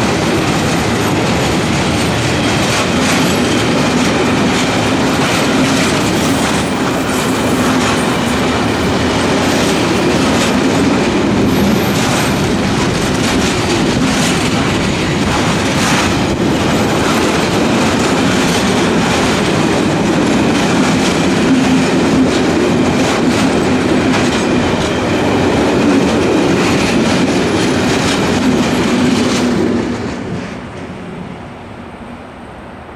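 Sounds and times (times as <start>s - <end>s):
train wheels clicking over rail joints: 0.0s - 31.0s.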